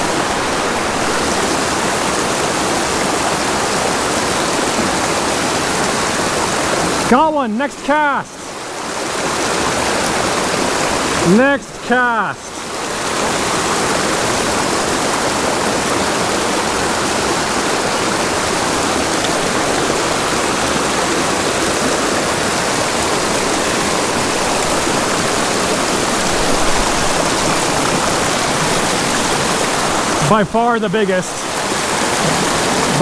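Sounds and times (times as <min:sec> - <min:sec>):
creek rushing over rocks: 0:00.0 - 0:33.0.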